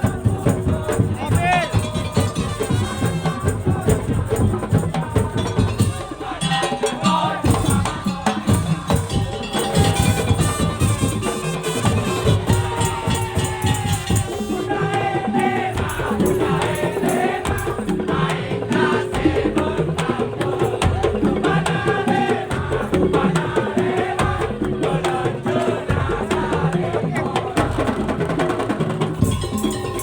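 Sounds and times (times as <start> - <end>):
slit drums and percussion: 0.0 - 30.0.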